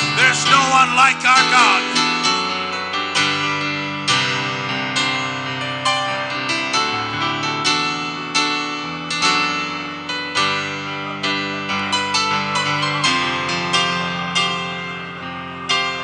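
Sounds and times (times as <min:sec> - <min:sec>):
keyboard playing slow chords: 0:00.0 - 0:16.0.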